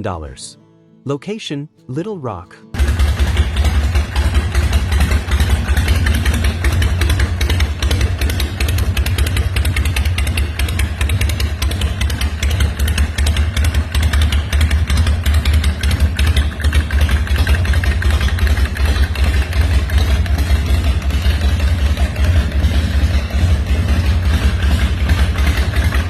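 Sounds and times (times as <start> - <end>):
motorcycle engine idling: 2.8 - 26.0.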